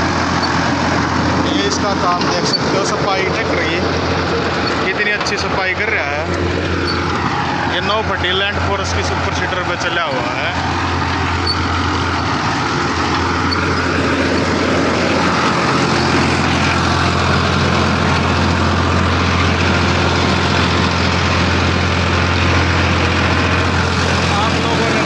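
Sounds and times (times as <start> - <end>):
seeder rotor working soil: 0.0 - 25.0
tractor diesel engine under load: 0.0 - 25.0.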